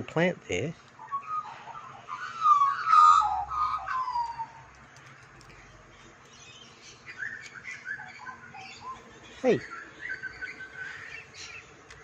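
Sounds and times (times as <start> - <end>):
magpies warbling: 0.9 - 11.9.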